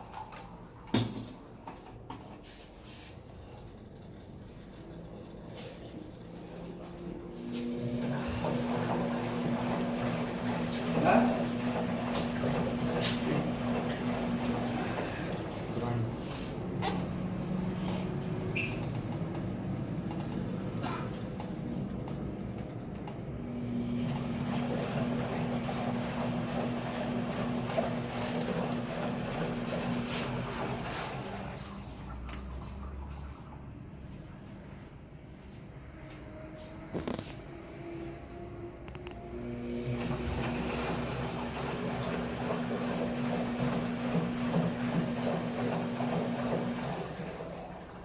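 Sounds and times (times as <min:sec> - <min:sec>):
washing machine running: 0:00.0 - 0:35.1, 0:35.7 - 0:48.0.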